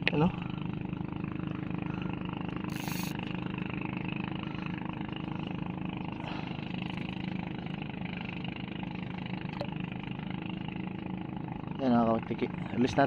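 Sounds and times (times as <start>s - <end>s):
engine running low drone: 0.0s - 13.0s.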